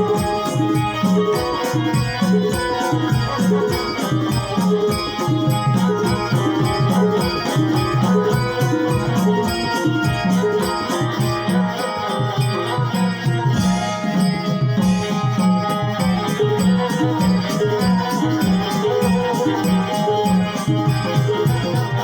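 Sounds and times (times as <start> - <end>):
fast drum beat: 0.0 - 22.0
held instrument tones: 0.0 - 22.0.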